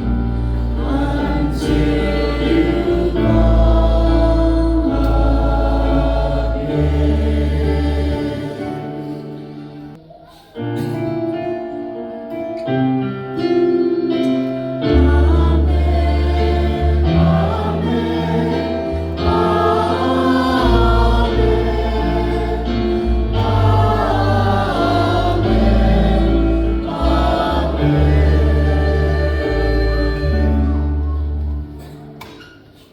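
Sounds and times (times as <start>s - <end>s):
church choir singing a hymn: 0.0s - 10.0s, 14.3s - 32.0s.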